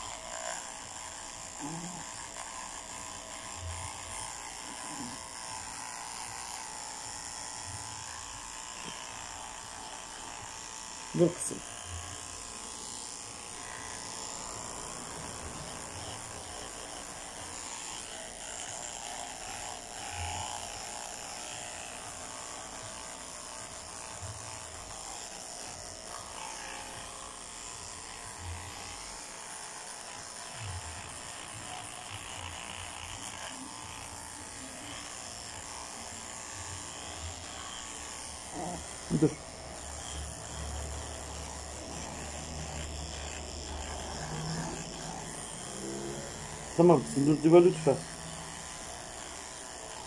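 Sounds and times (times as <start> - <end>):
electric dog clippers running: 0.0 - 50.0.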